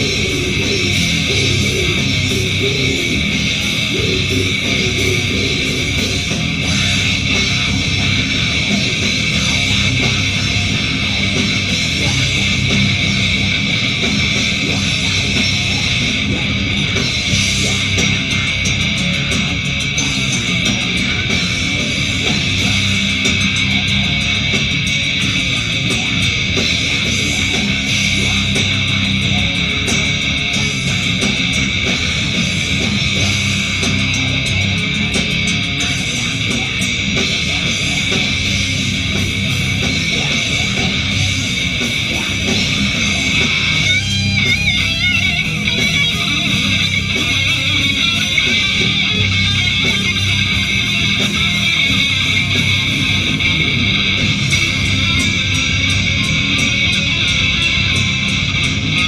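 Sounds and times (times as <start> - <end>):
live rock band: 0.0 - 59.0
wavering lead guitar line: 0.0 - 59.0.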